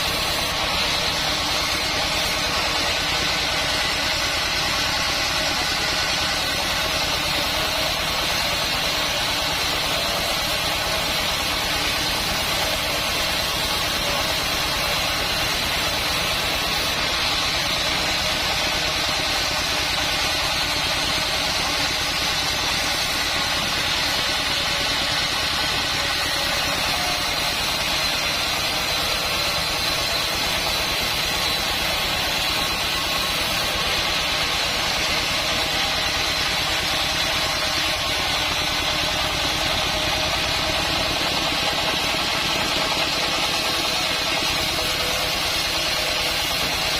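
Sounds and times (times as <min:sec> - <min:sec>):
sawmill machinery droning: 0:00.0 - 0:46.9.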